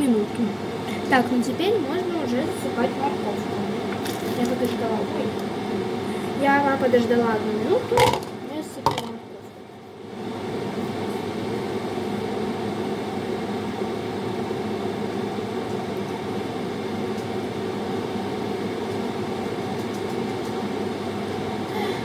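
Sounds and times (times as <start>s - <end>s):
extractor fan whirring hum: 0.0s - 22.0s.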